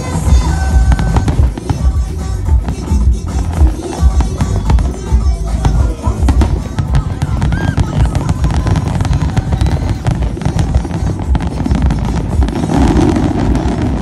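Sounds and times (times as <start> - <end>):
fireworks bursting and crackling: 0.0 - 14.0.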